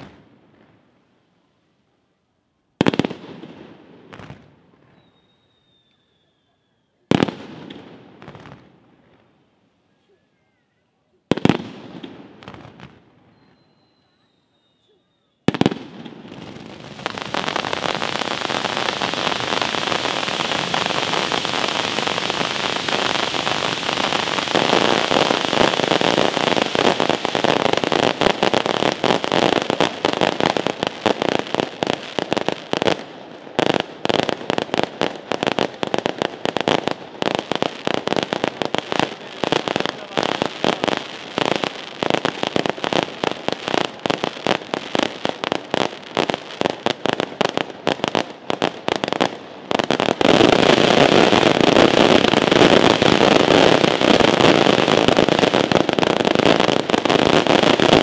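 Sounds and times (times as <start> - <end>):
fireworks bangs and crackles: 0.0 - 1.2, 2.7 - 10.0, 10.9 - 58.0.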